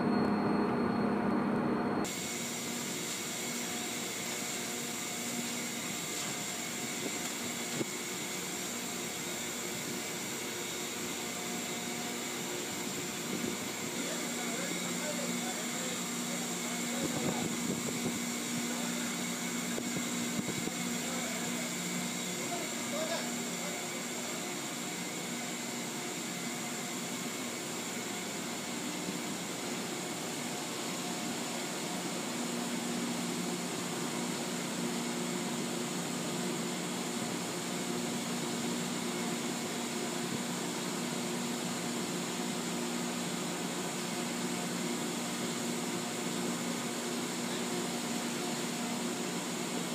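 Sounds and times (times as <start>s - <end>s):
industrial machinery hum: 0.0s - 49.9s
ventilation fans: 0.0s - 49.9s.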